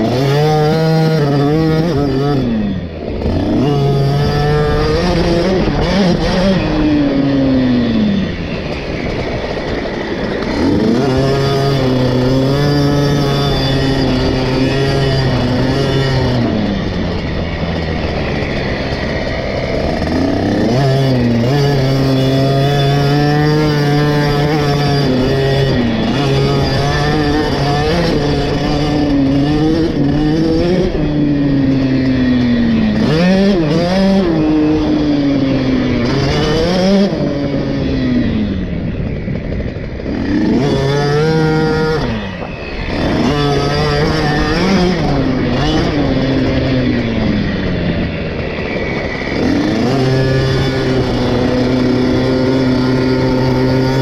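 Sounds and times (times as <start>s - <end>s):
two-stroke dirt bike engine revving: 0.0s - 54.0s.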